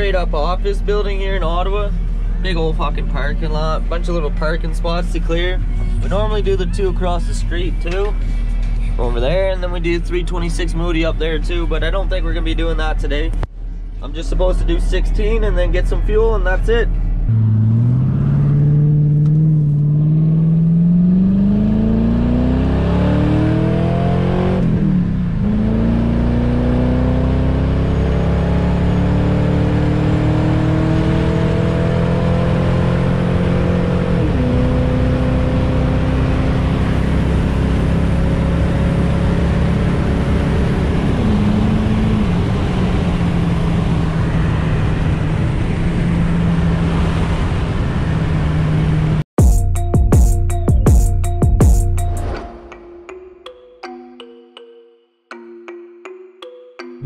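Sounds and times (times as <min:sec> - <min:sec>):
car engine accelerating: 0:00.0 - 0:49.3
tyre and road noise: 0:00.8 - 0:49.2.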